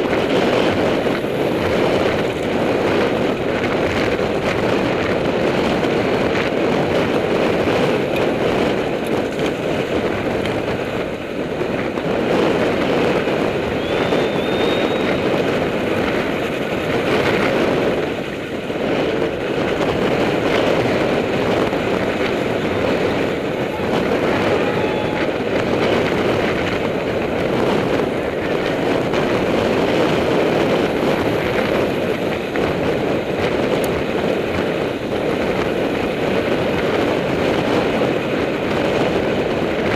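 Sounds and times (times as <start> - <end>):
tyres rolling on loose dirt: 0.0 - 39.9
wind rushing on microphone: 0.0 - 39.9.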